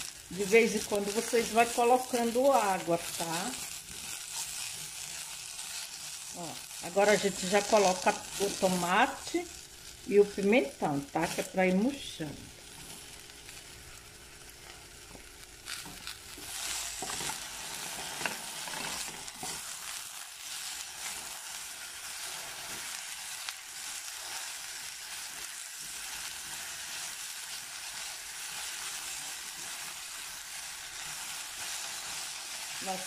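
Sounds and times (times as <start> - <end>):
food sizzling in a saucepan: 0.0 - 33.0.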